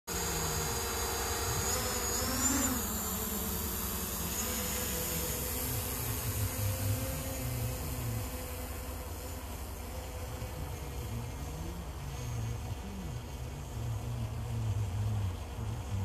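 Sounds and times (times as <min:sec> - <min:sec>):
drone propellers buzzing: 0:00.1 - 0:16.0.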